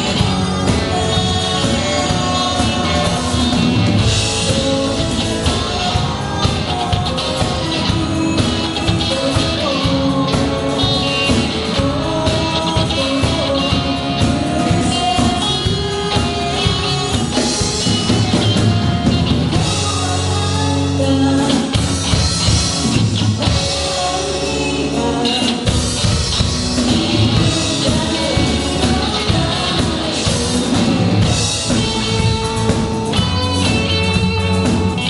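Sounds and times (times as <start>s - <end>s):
drums: 0.0s - 35.0s
electric guitar: 0.0s - 35.0s
person singing: 0.0s - 35.0s.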